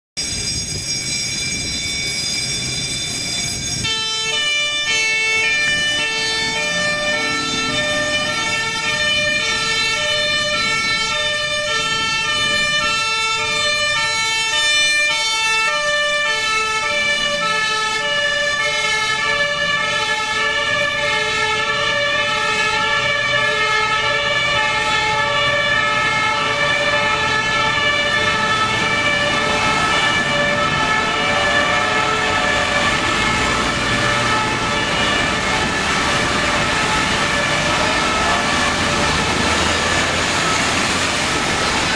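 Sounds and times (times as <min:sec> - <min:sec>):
fire truck siren: 0:00.2 - 0:41.9
truck engine: 0:00.3 - 0:41.9.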